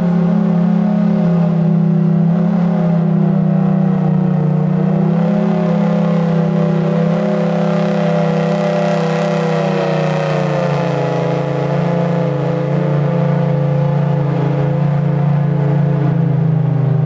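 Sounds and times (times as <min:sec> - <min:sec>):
steady low drone: 0:00.0 - 0:17.0
warning siren steady tone: 0:00.0 - 0:17.0.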